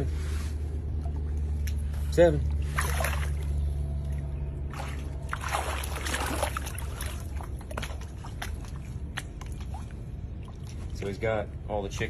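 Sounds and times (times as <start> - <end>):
steady low hum: 0.0 - 12.0
water sloshing and splashing: 0.0 - 12.0.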